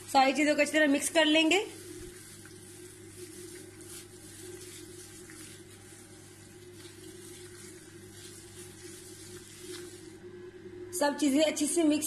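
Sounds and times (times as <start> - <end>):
wet squelching of marinade: 0.0 - 10.2
steady low hum: 0.0 - 12.0.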